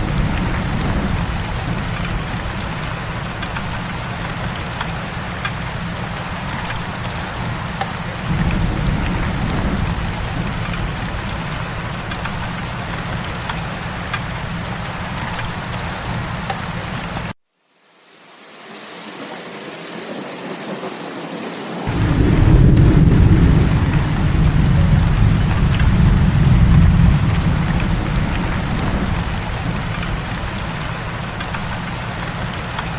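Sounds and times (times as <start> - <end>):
heavy rain pattering: 0.0 - 17.4, 21.4 - 32.9.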